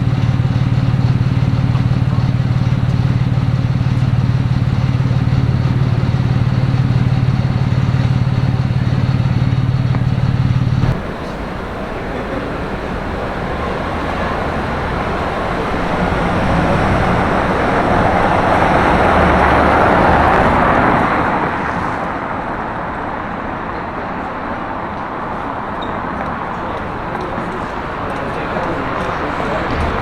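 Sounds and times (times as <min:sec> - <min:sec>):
vehicle driving past: 0:00.0 - 0:22.8, 0:24.6 - 0:30.0
street traffic: 0:00.0 - 0:30.0.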